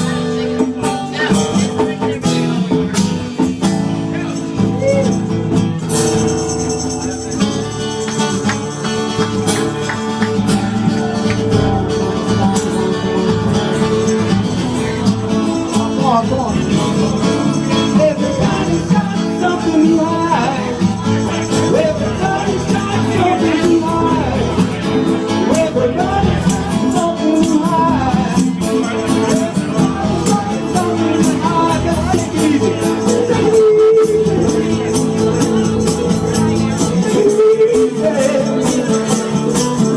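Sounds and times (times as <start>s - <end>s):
song with singing: 0.0s - 39.9s.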